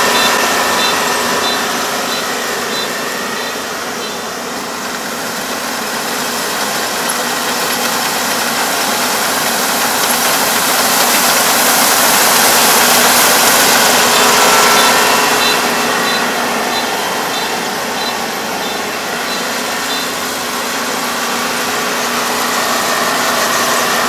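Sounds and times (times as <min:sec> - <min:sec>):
combine harvester engine and threshing: 0:00.0 - 0:24.0.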